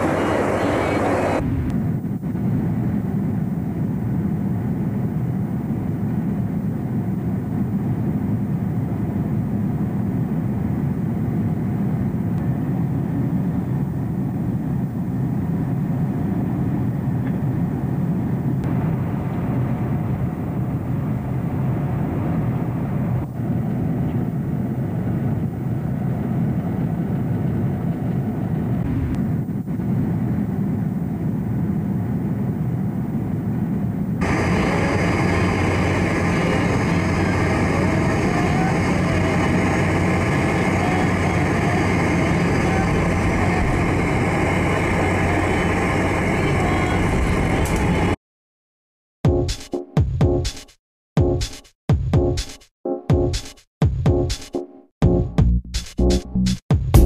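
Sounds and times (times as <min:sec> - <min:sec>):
airliner cabin noise: 0:00.0 - 0:48.2.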